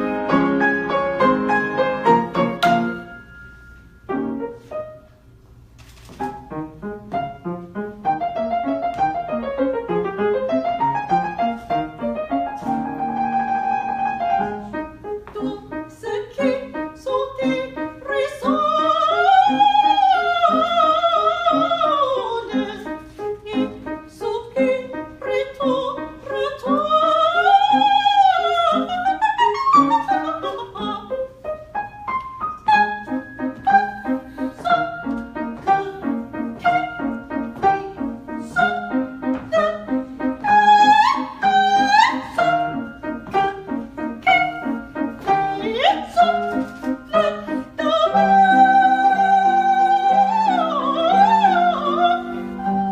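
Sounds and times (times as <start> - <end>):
piano accompaniment: 0.0 - 52.9.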